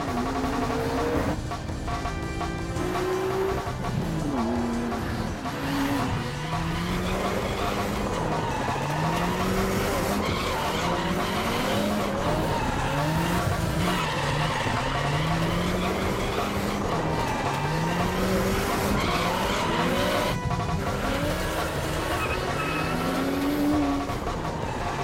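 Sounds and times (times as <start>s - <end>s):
car engine revving: 0.0s - 25.0s
tyres screeching: 0.0s - 25.0s.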